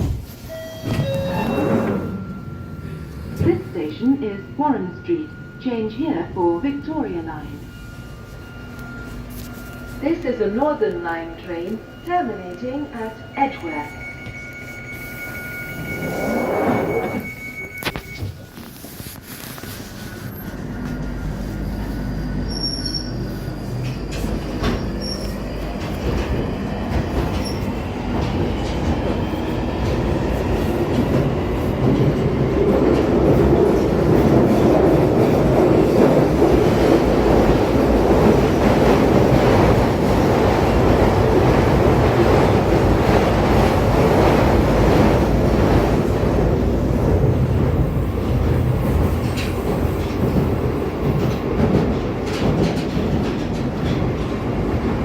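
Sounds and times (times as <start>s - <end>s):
train rumbling in tunnel: 0.0s - 55.0s.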